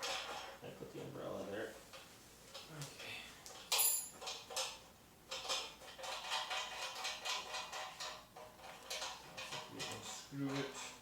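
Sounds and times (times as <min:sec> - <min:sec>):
small clicks and rattles: 0:01.9 - 0:11.0.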